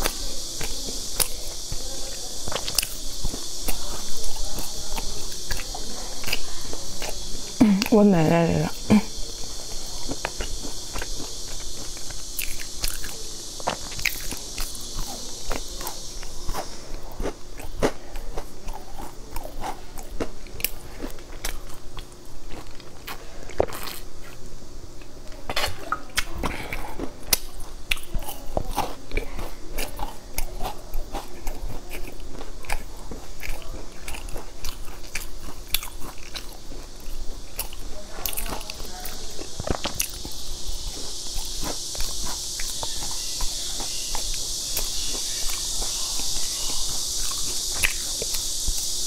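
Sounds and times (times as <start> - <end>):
crunchy pastry chewing: 0.0 - 8.0, 8.7 - 49.0.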